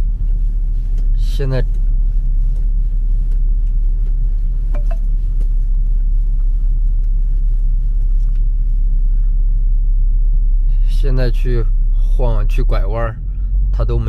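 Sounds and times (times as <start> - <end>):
car cabin road rumble: 0.0 - 14.0.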